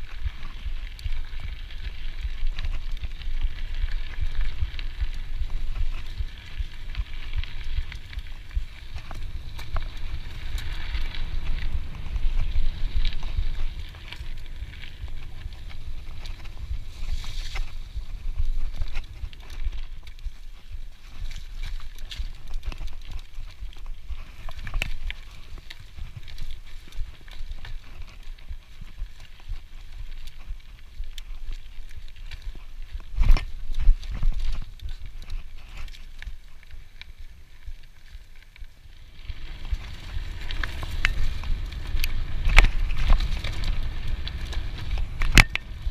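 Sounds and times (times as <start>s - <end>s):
bike clicks and rattles: 0.0s - 45.9s
bike tyres crunching on dirt: 0.0s - 45.9s
wind rumble on microphone: 0.0s - 45.9s.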